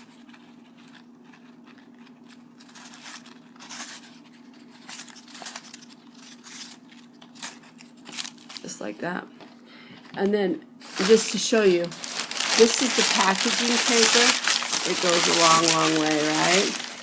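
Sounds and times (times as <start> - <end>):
paper and string rustling: 0.0 - 8.8, 10.8 - 17.0.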